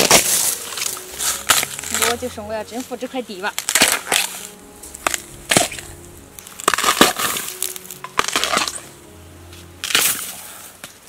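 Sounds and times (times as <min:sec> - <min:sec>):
bamboo undergrowth crunching: 0:00.0 - 0:11.0
soft background music: 0:00.0 - 0:11.0.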